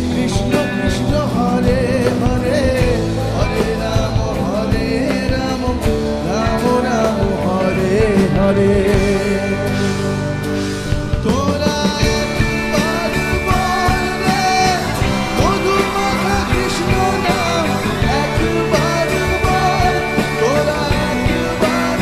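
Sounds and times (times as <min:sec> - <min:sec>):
live rock band playing: 0:00.0 - 0:22.0
man singing: 0:00.0 - 0:22.0.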